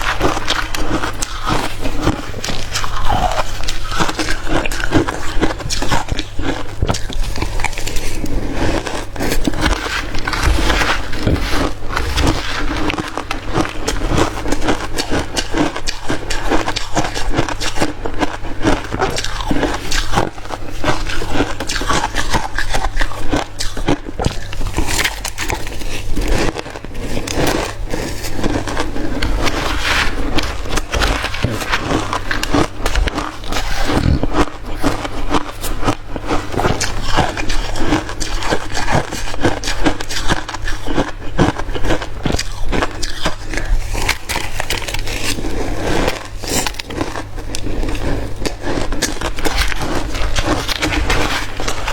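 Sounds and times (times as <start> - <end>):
chewing crushed ice: 0.0 - 51.9
steady low hum: 0.0 - 51.9.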